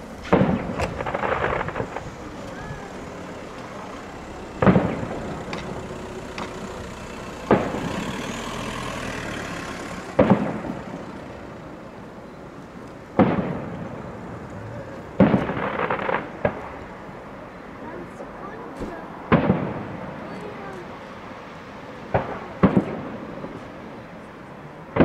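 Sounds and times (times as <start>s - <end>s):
firework bangs echoing: 0.0s - 17.7s, 18.5s - 20.9s, 22.0s - 24.1s.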